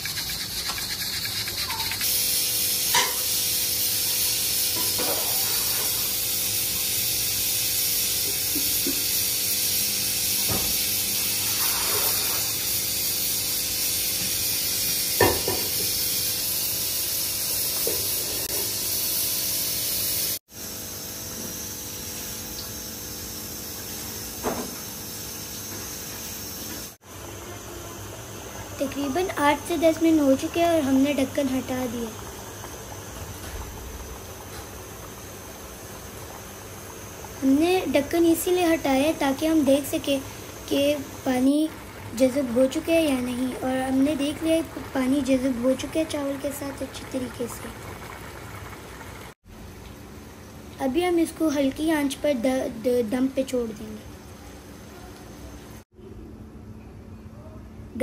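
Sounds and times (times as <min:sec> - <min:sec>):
pot of broth hissing: 0:00.0 - 0:49.4.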